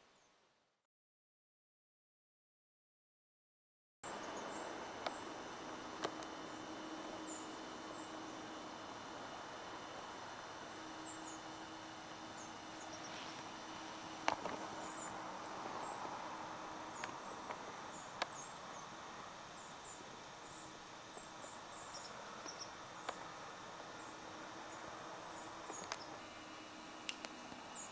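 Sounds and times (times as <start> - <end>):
high chirps of birds or insects: 0.1 - 0.4, 4.1 - 27.9
faint low hum: 4.1 - 27.9.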